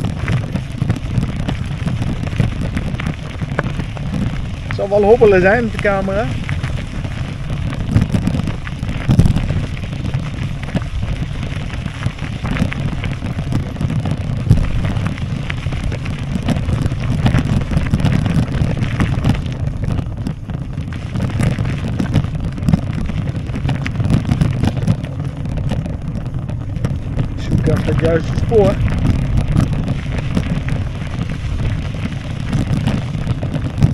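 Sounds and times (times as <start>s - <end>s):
tyres rumbling on rough ground: 0.0s - 33.9s
wind buffeting the microphone: 0.0s - 33.9s.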